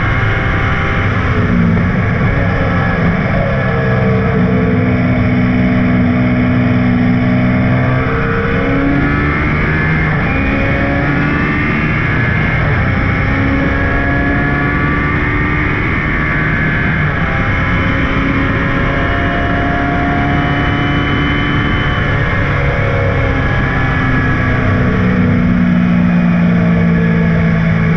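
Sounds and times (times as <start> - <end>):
racing engine at full throttle: 0.0 - 27.9.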